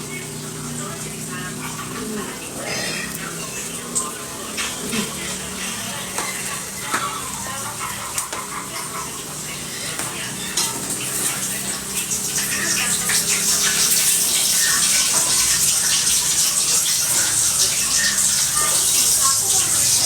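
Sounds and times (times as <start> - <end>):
water running from a tap: 0.0 - 20.0.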